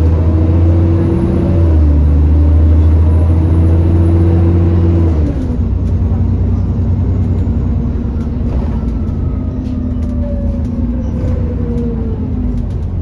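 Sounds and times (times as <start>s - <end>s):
bus engine rumble with whine: 0.0s - 13.0s.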